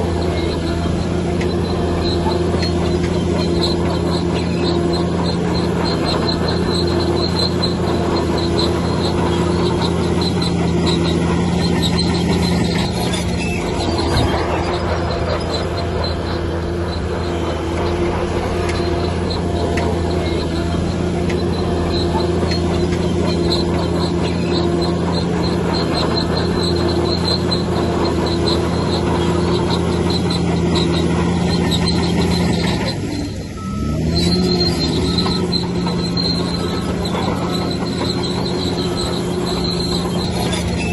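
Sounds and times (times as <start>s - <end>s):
bulldozer diesel engine running: 0.0s - 40.9s
steel tracks squealing: 0.0s - 40.9s.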